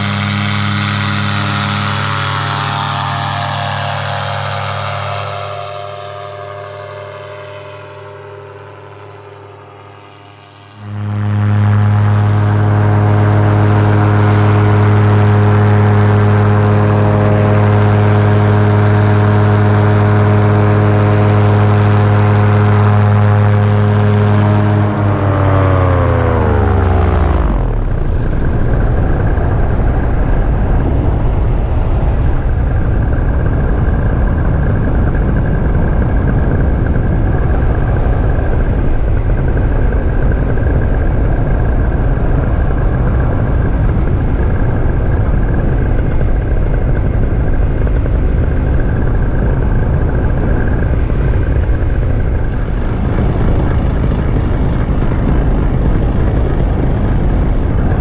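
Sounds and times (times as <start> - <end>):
paramotor engine drone: 0.0 - 58.0
wind rushing over microphone: 0.0 - 58.0.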